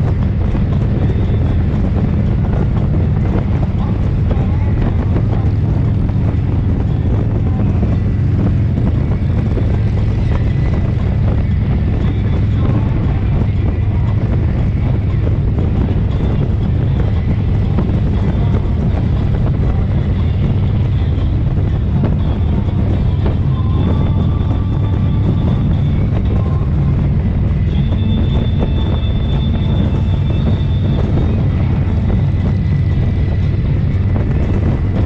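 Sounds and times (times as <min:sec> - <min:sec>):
motorcycle engine droning: 0:00.0 - 0:35.0
wind on microphone: 0:00.0 - 0:35.0.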